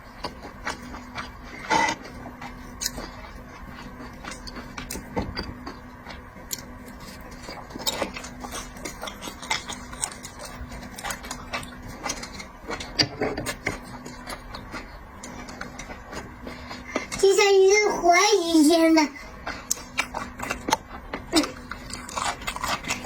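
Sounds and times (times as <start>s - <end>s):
chewing seafood: 0.0s - 17.3s, 19.2s - 23.0s
steady low hum: 0.0s - 23.0s.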